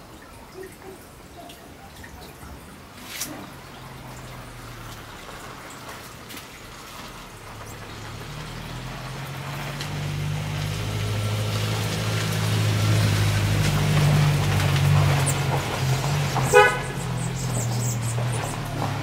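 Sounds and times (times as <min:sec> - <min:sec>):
vehicle engine hum: 0:02.8 - 0:19.0.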